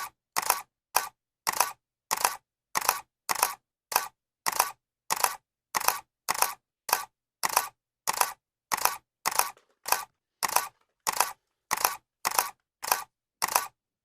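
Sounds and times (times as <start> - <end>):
camera shutter clicks: 0.4 - 13.7.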